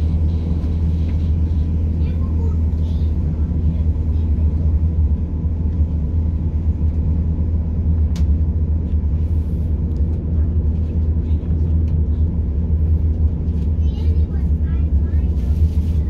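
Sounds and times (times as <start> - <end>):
train interior drone and rumble: 0.0 - 16.0.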